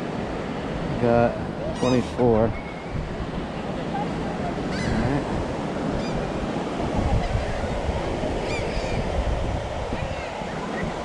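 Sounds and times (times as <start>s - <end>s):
surf washing: 0.0s - 11.0s
wind on microphone: 0.0s - 11.0s.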